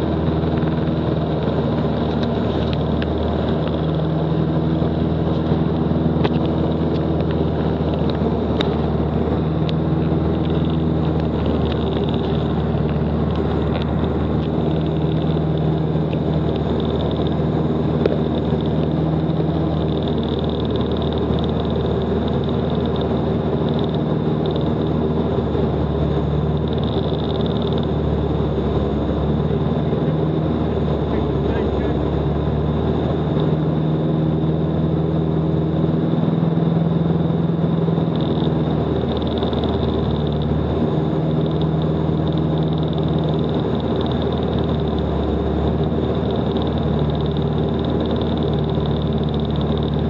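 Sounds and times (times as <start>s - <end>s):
light aircraft engine droning: 0.0s - 50.0s.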